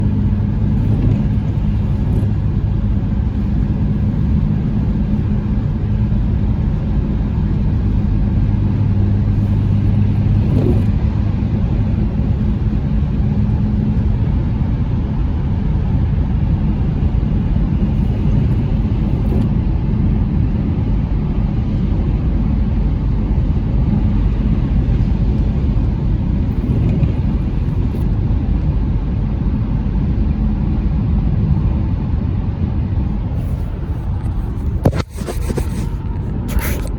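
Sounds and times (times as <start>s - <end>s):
vehicle road noise rumble: 0.0s - 36.9s.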